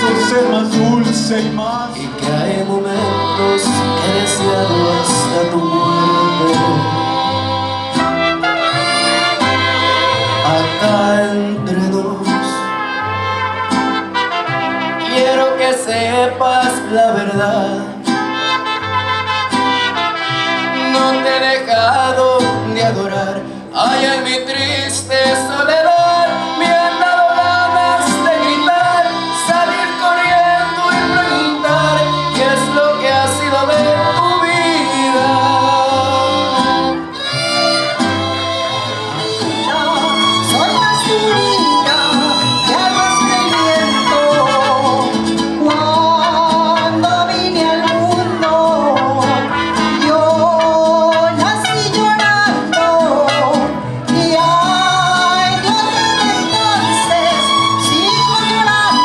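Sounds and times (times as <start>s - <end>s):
man singing into a microphone: 0.0s - 13.4s, 14.4s - 18.8s, 20.5s - 59.0s
mariachi band playing: 0.0s - 59.0s.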